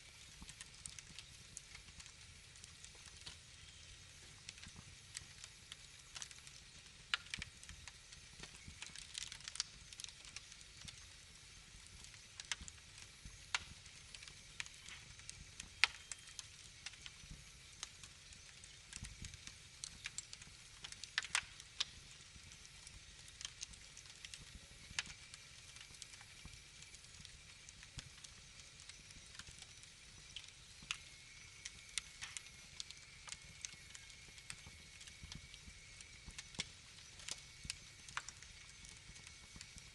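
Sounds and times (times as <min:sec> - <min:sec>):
faint steady hiss: 0:00.0 - 0:39.9
wood fire crackling: 0:00.0 - 0:39.9
sharp pops and snaps: 0:00.2 - 0:03.6, 0:04.4 - 0:11.1, 0:11.8 - 0:39.9.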